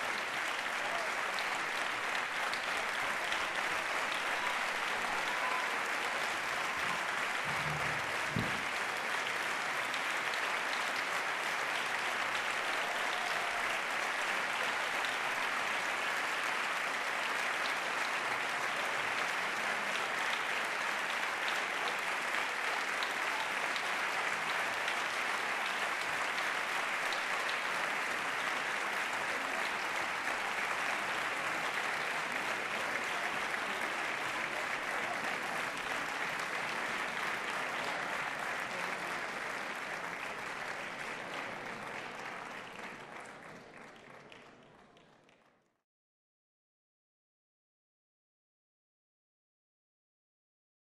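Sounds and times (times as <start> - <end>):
audience applause: 0.0 - 45.8.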